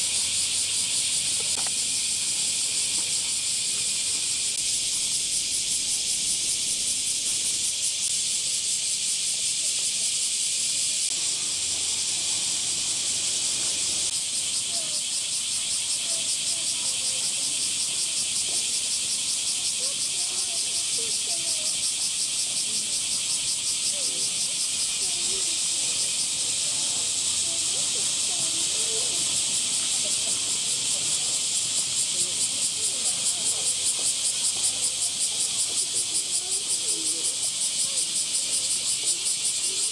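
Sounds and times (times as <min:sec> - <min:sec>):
cicada chorus: 0:00.0 - 0:39.9.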